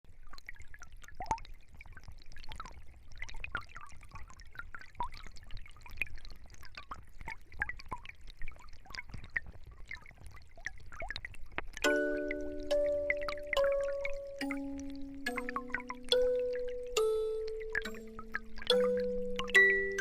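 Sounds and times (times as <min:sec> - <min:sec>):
stream babbling and gurgling: 0:00.1 - 0:20.0.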